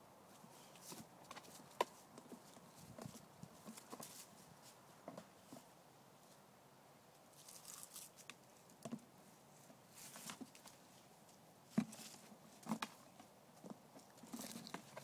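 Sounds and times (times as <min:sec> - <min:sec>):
soft rustles on grass: 0:00.2 - 0:15.0.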